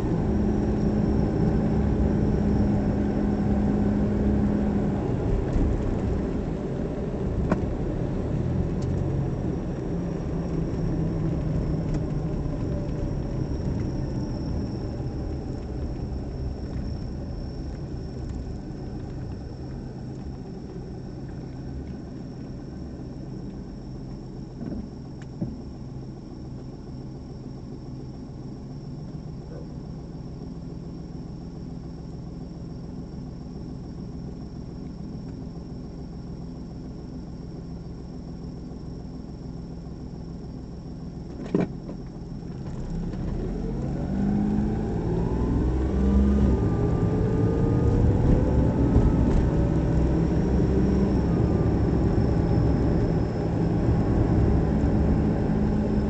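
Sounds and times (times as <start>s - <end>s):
car engine idling: 0.0s - 45.7s.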